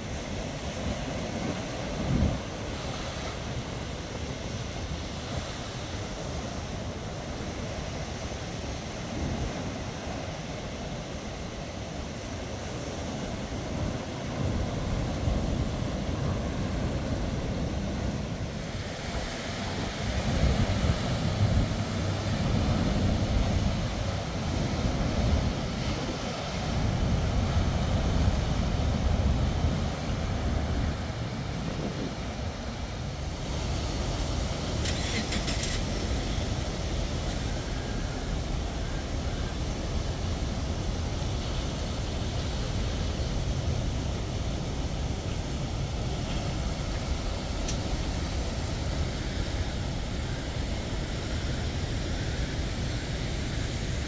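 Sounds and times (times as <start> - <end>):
ocean surf breaking: 0.0 - 54.0
wind rumbling on microphone: 0.0 - 54.0.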